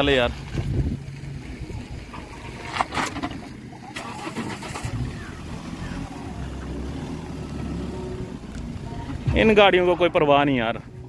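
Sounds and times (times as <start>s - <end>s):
diesel engine at low revs: 0.0s - 11.0s.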